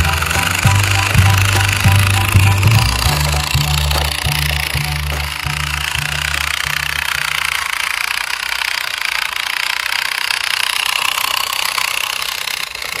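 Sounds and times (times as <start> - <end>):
small motor buzzing rattle: 0.0 - 13.0.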